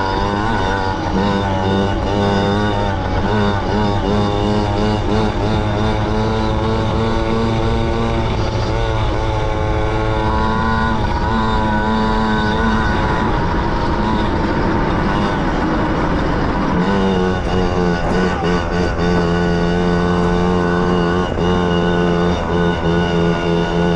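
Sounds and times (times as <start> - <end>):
small motorbike engine revving: 0.0 - 23.9.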